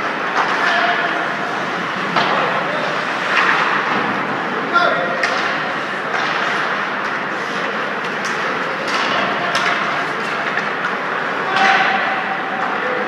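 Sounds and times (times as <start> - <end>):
din of hockey play: 0.0 - 13.0
distant voices: 0.0 - 13.0.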